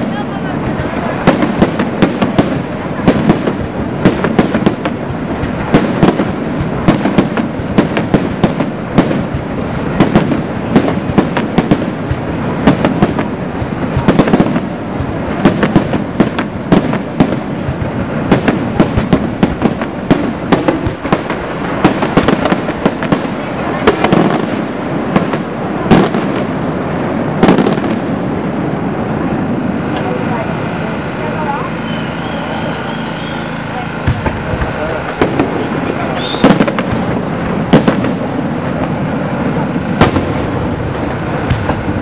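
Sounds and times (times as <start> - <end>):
fireworks bangs: 0.0 - 42.0
fireworks crackling: 0.0 - 42.0.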